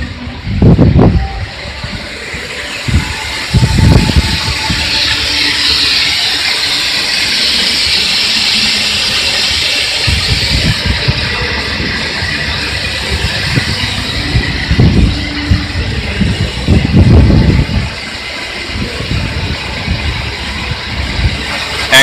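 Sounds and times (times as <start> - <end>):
low buffeting: 0.0 - 22.0
water spraying hiss: 0.0 - 22.0.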